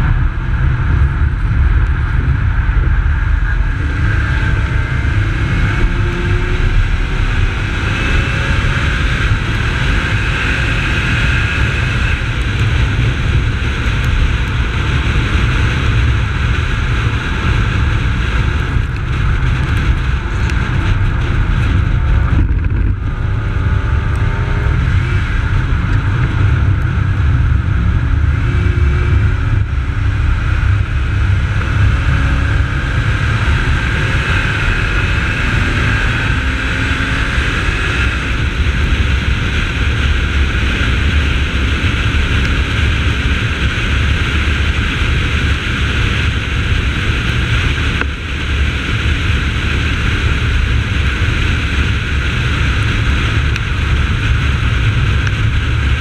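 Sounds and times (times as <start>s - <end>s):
car engine working hard: 0.0s - 56.0s
wind rumble on microphone: 0.0s - 56.0s.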